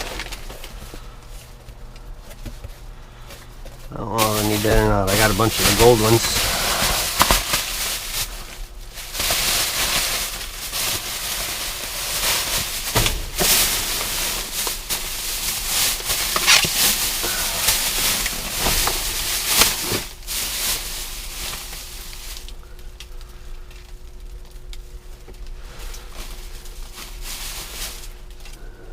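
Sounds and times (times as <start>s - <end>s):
plastic bags rustling and crinkling: 0.0s - 28.9s.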